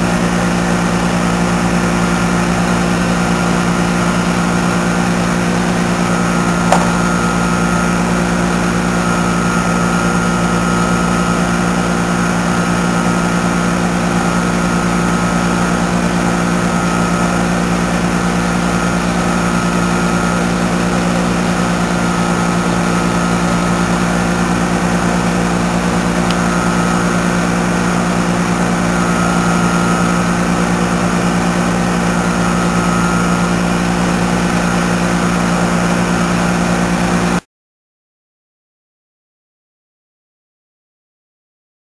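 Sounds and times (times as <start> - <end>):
large engine droning: 0.0 - 37.4.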